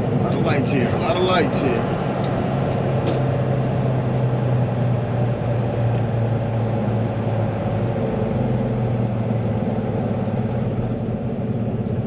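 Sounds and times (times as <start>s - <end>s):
diesel engine drone from cab: 0.0s - 12.0s.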